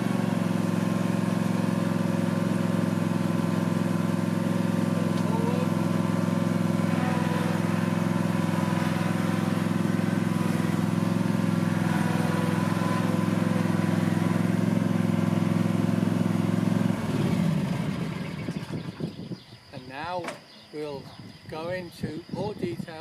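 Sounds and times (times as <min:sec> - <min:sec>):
lawn mower engine running: 0:00.0 - 0:19.5.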